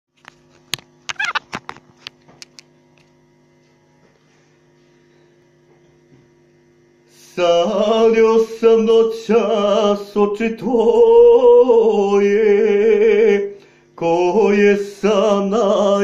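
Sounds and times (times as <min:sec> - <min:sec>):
faint electrical hum: 0:00.1 - 0:16.0.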